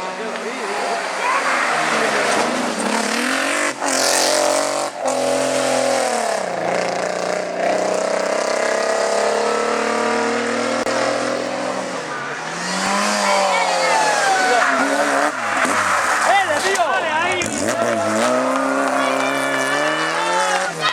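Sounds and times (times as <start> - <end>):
race car engine revving: 0.0 - 20.9.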